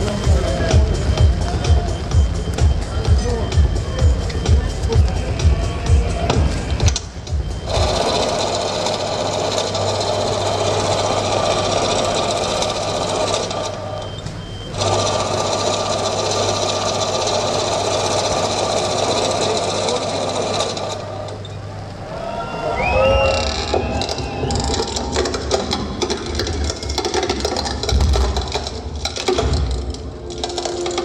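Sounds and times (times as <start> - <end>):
constant low hum: 0.0 - 15.2, 20.8 - 31.0
mechanical whirring: 0.0 - 31.0.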